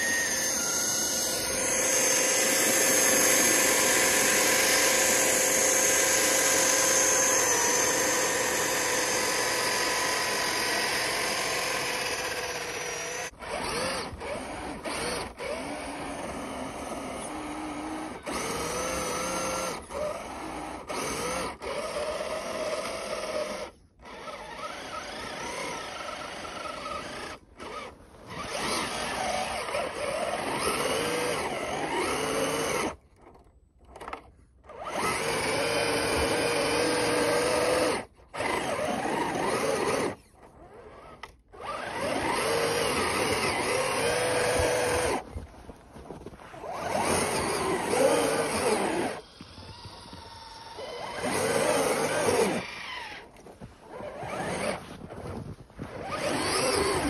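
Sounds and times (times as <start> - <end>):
electric motor and gears whining: 0.0 - 57.0.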